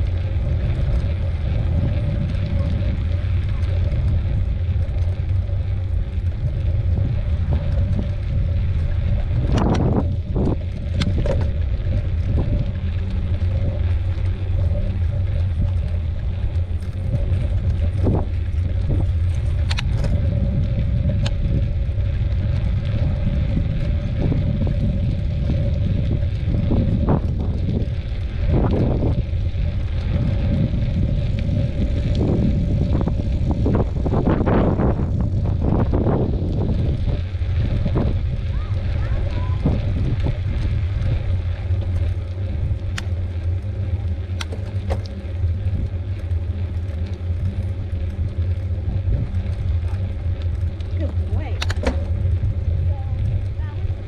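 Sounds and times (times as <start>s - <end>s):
bicycle tyres rolling on trail: 0.0s - 54.0s
bike clicks and rattles: 0.0s - 54.0s
faint steady hum: 0.0s - 54.0s
wind on microphone: 0.0s - 54.0s.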